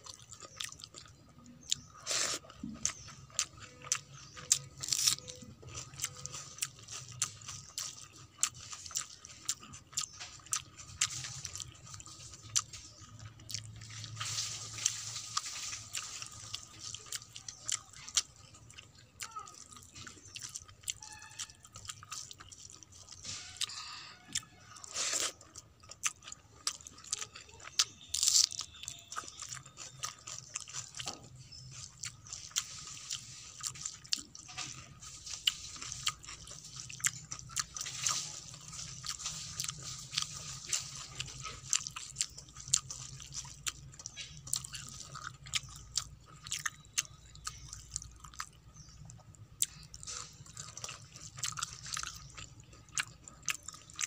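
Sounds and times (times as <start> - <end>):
close-up chewing: 0.0 - 54.0.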